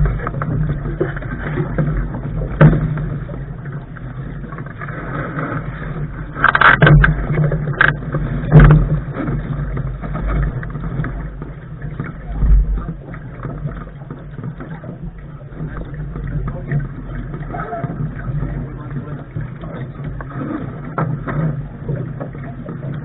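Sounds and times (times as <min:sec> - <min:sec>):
water rushing along hull: 0:00.0 - 0:23.0.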